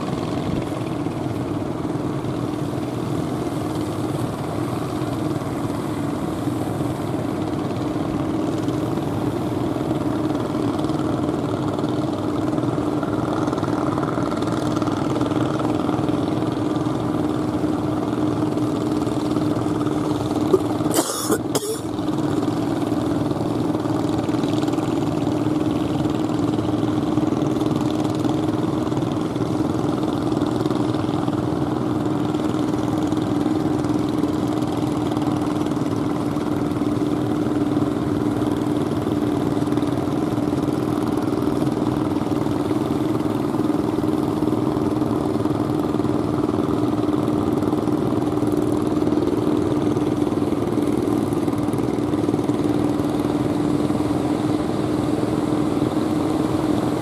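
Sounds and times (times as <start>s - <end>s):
engine droning steadily: 0.0s - 57.0s.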